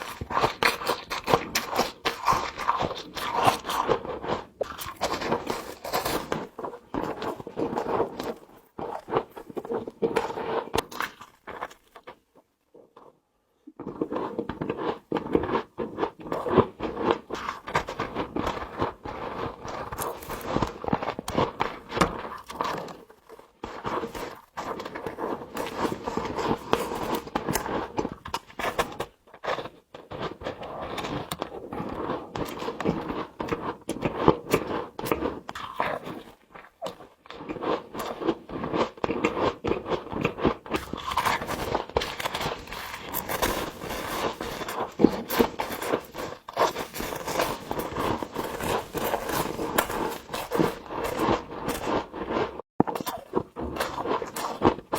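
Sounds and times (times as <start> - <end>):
frost being chewed: 0.0 - 54.9.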